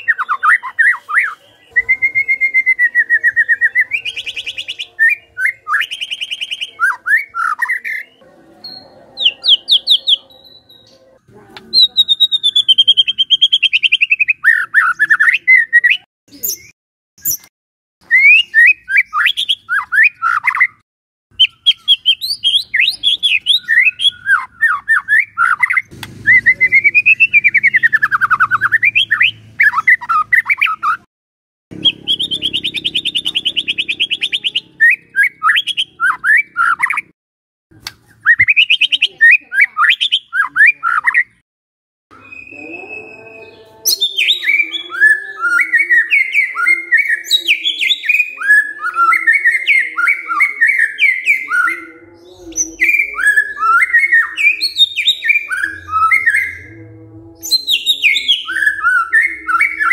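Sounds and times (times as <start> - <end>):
bird singing whistled phrases: 0.0 - 11.1, 11.7 - 17.4, 18.0 - 20.8, 21.4 - 31.0, 31.8 - 37.1, 38.2 - 41.4, 42.1 - 56.7, 57.4 - 59.9.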